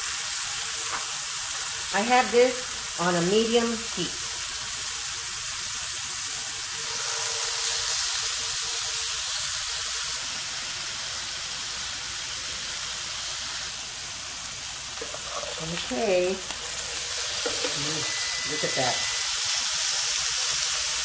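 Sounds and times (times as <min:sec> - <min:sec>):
chicken sizzling on grill pan: 0:00.0 - 0:21.0.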